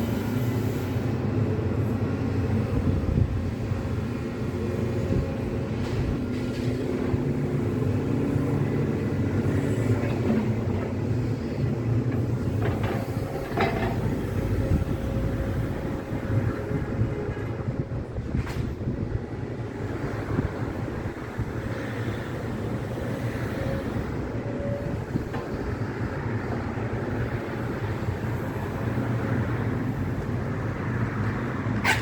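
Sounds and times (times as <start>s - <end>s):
excavator diesel engine running: 0.0s - 20.1s, 20.8s - 32.0s.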